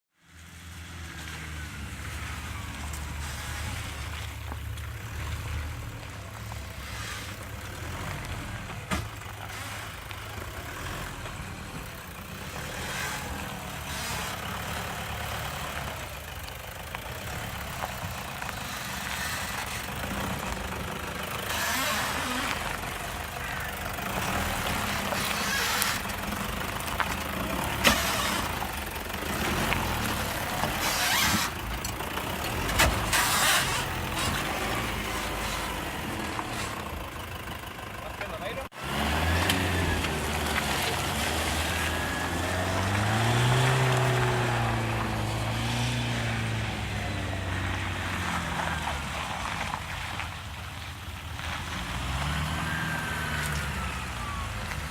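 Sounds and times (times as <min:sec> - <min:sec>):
pickup engine at low revs: 0:00.3 - 0:54.9
suspension squeaking and creaking: 0:00.3 - 0:54.9.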